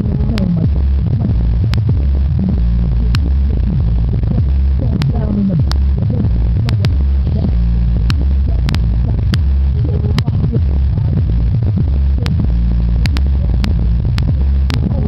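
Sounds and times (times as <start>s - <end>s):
hip-hop with deep bass: 0.0s - 15.0s
rap vocals: 0.0s - 15.0s
sharp clicks: 0.0s - 15.0s.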